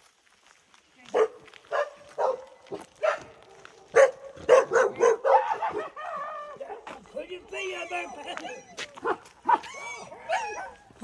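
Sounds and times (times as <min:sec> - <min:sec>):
dog barking: 0:01.1 - 0:07.0, 0:07.7 - 0:11.0.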